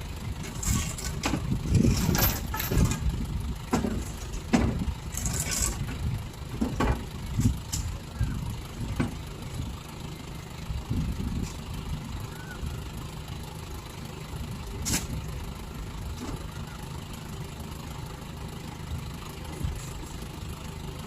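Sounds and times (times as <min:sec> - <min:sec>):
lorry engine idling: 0:00.0 - 0:21.0.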